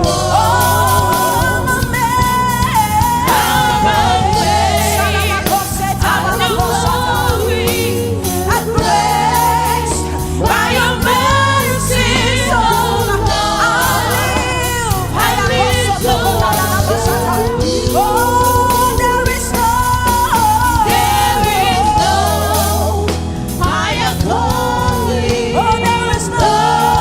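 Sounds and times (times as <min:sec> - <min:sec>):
band accompaniment with bass line: 0:00.0 - 0:27.0
person singing gospel: 0:00.0 - 0:27.0.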